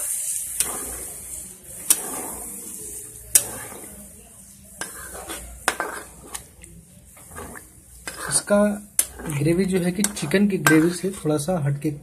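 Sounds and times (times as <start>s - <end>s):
spatula clinking and scraping a pan: 0.0s - 11.6s.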